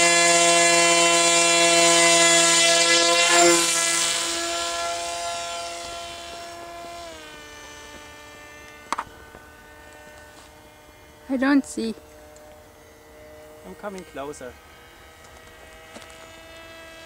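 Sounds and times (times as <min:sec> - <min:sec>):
electric motor high-pitched whine: 0:00.0 - 0:17.0.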